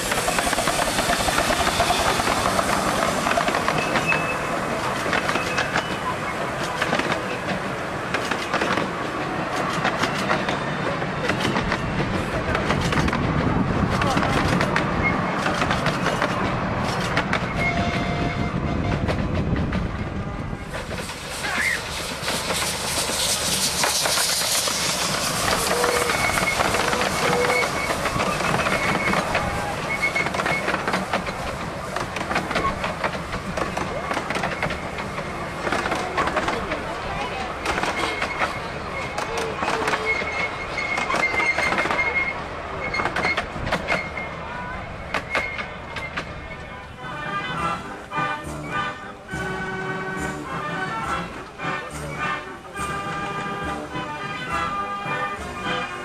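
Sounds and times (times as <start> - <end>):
railway carriage wheels clickety-clack: 0.0 - 56.0.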